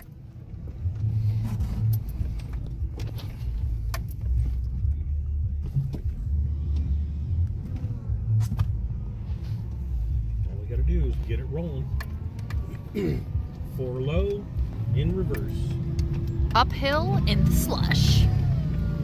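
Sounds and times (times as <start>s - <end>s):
truck engine rumbling under load: 0.0s - 19.0s.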